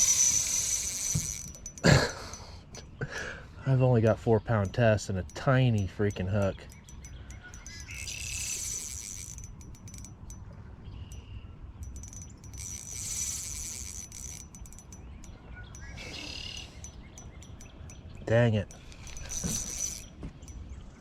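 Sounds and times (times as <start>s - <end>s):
fishing reel drag buzzing: 0.0s - 2.8s, 4.5s - 10.5s, 11.8s - 18.0s, 18.6s - 20.6s
steady low hum: 0.0s - 21.0s.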